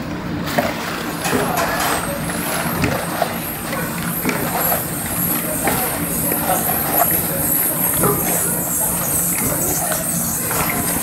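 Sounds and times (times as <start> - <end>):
wooden paddles scraping a wok: 1.4 - 11.0.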